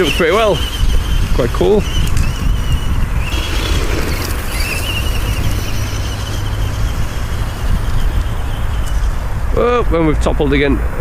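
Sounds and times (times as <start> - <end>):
rc truck electric motor whine: 0.0 - 9.5
wind buffeting microphone: 0.0 - 11.0.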